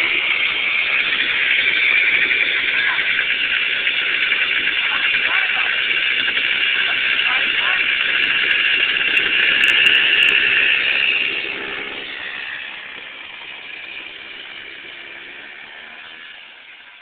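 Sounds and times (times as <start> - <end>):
small kart engine running: 0.0 - 17.0.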